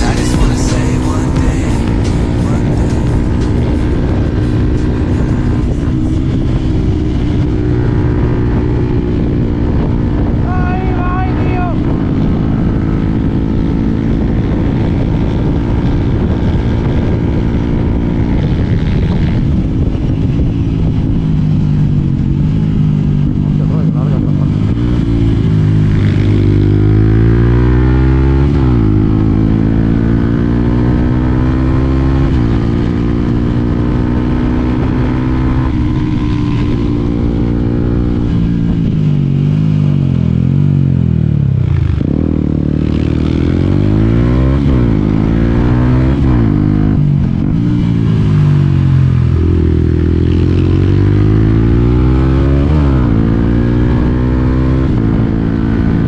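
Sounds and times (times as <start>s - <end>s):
motorcycle engine shifting through gears: 0.0s - 10.6s, 11.8s - 56.0s.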